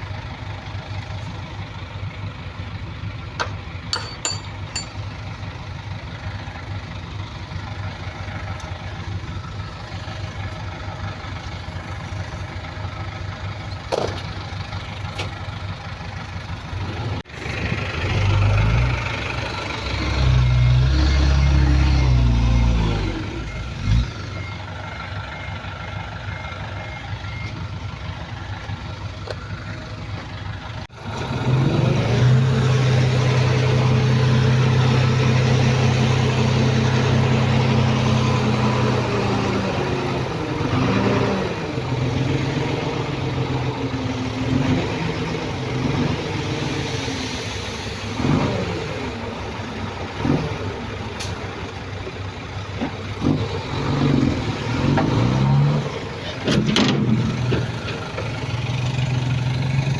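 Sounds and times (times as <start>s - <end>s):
heavy diesel engine drone: 0.0s - 59.9s.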